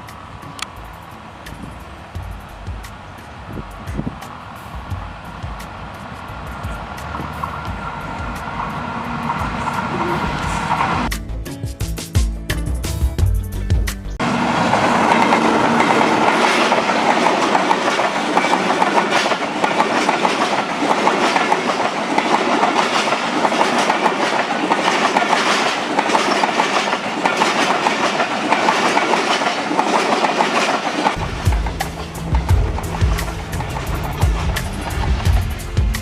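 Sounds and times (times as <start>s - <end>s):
train wheels clattering on rails: 0.0s - 11.1s, 14.2s - 36.0s.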